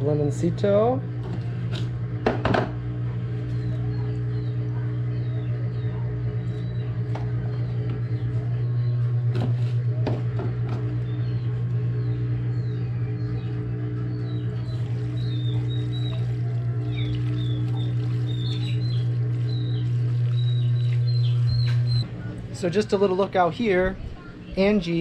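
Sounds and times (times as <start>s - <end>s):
low mechanical hum: 0.0s - 25.0s
birds chirping faintly: 3.5s - 9.6s, 10.8s - 25.0s.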